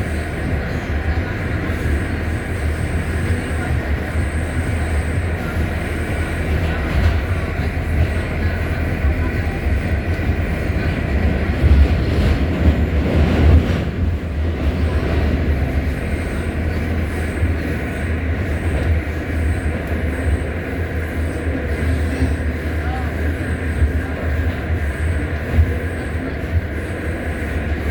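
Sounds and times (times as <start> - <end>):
wheels rumbling on rail: 0.0 - 27.9.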